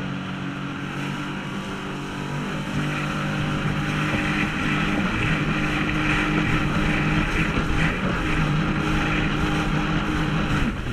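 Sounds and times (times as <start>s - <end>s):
jet ski engine running: 0.0s - 10.9s
rushing water: 0.0s - 10.9s
wind: 0.0s - 10.9s.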